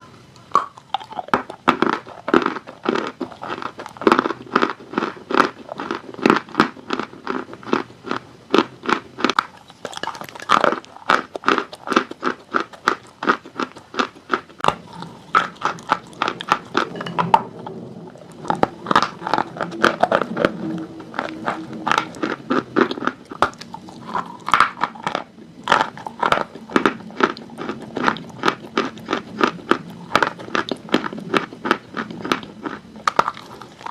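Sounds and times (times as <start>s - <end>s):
chalk crunching while chewed: 0.4s - 33.9s.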